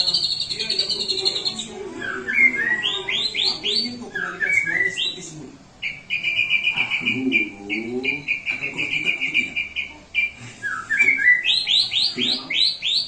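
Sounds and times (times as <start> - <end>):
bird singing whistled notes: 0.0 - 5.2, 5.8 - 13.0.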